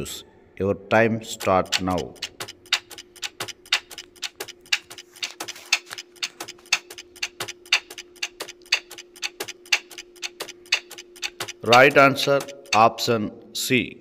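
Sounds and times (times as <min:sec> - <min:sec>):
clock ticking: 0:01.3 - 0:13.1.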